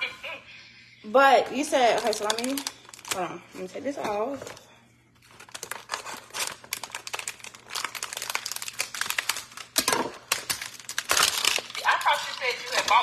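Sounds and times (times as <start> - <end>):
plastic cover crinkling: 1.6 - 13.0.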